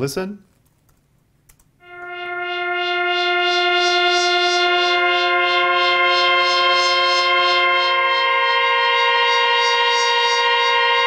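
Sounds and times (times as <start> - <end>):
synthesizer pad: 1.8 - 11.0.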